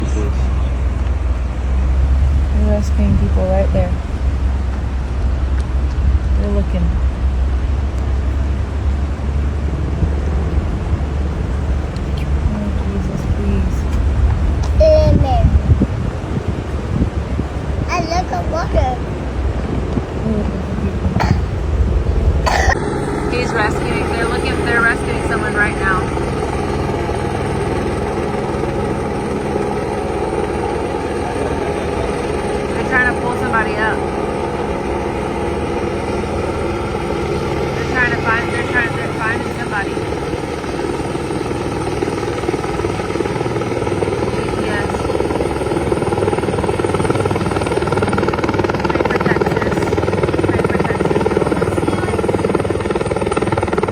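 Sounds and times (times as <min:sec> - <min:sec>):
engine droning: 0:00.0 - 0:53.9
helicopter rotor chopping: 0:00.0 - 0:53.9.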